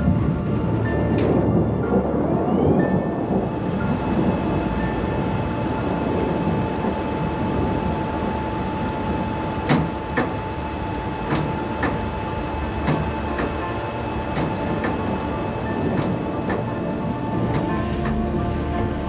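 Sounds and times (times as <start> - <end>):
machinery low rumble: 0.0 - 19.0.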